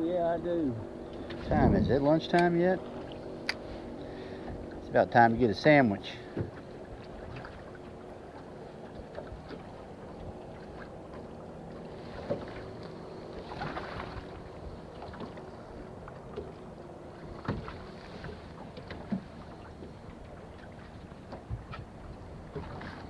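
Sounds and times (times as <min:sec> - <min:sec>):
light wind: 0:00.0 - 0:23.0
low motor hum: 0:00.0 - 0:23.0.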